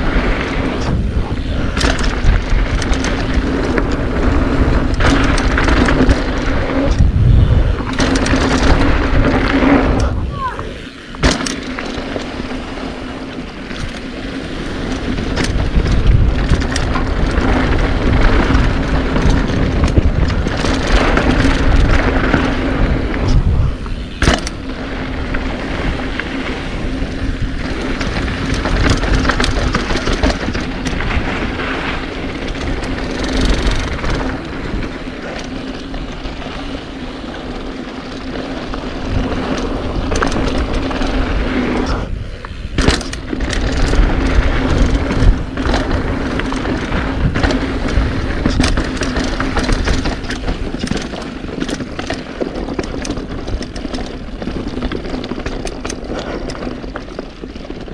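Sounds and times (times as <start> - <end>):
bike rattling and knocking: 0.0 - 57.9
tyres rolling on dirt: 0.0 - 57.9
wind rushing over microphone: 0.0 - 57.9.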